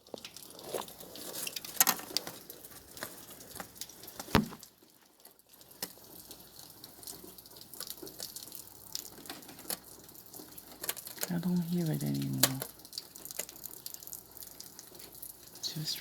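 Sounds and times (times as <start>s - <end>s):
faint steady hiss: 0.0s - 16.0s
rain pattering: 0.0s - 16.0s.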